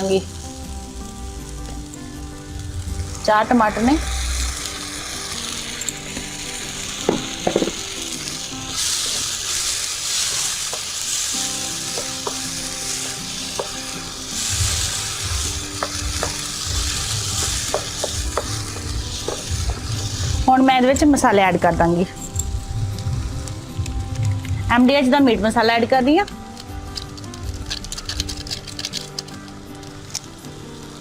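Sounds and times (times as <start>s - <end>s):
puree sizzling in a pan: 0.0s - 31.0s.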